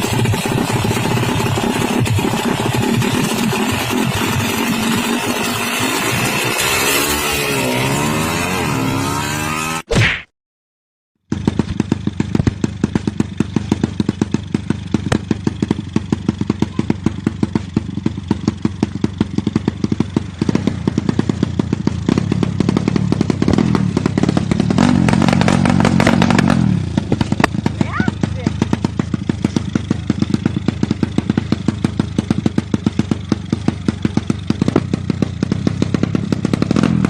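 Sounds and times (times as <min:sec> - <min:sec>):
motorcycle engine idling: 0:00.0 - 0:07.3, 0:11.3 - 0:37.0.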